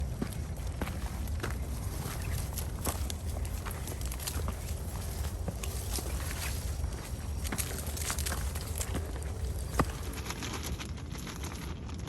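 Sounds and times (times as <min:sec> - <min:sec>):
footsteps walking: 0:00.0 - 0:10.8.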